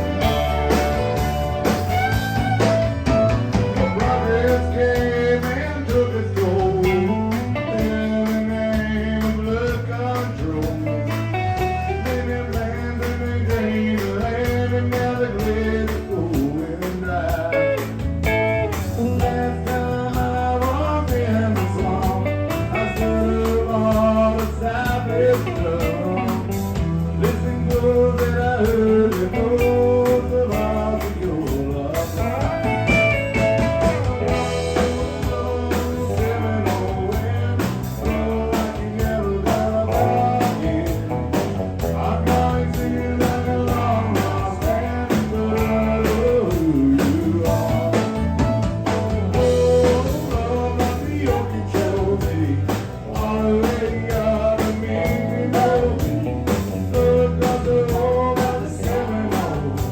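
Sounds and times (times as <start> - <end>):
guitar lead bending notes: 0.0 - 14.7, 15.5 - 59.9
country band playing: 0.0 - 59.9.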